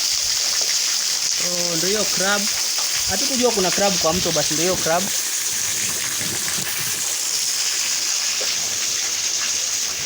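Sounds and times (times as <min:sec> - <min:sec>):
water rushing over rocks: 0:01.0 - 0:10.0.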